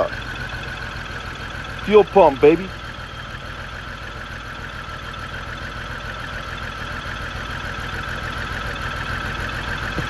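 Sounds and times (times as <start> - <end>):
car engine idling with misfire: 0.0 - 10.0.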